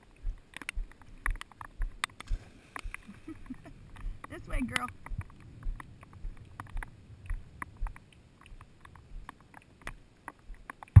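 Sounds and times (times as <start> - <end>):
sharp ticks and taps: 0.0 - 11.0.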